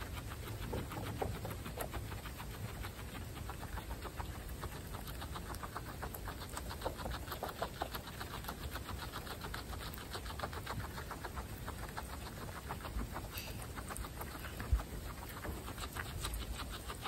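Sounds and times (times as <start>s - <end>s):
guinea pigs chewing grass: 0.0s - 17.0s.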